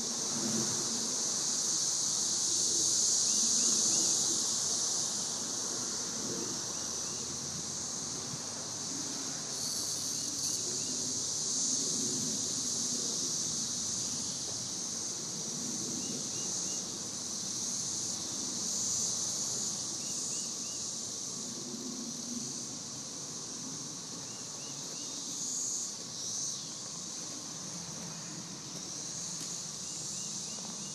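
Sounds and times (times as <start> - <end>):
cicada chirps: 0.0 - 30.9
cicadas droning: 0.0 - 30.9.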